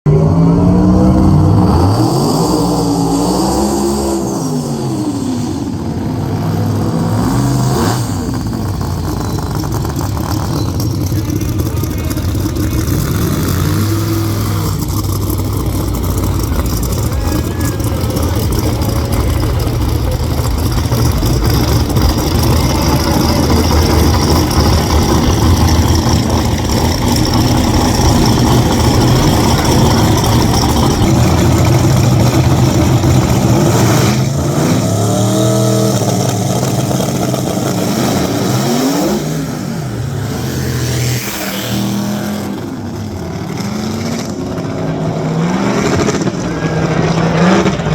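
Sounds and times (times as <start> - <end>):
car engine revving: 0.1 - 47.9.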